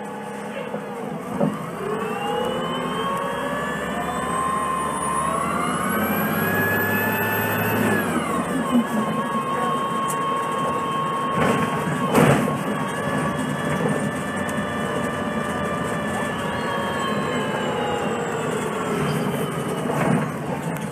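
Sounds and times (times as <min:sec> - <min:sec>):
bus engine accelerating with whine: 0:00.0 - 0:20.9.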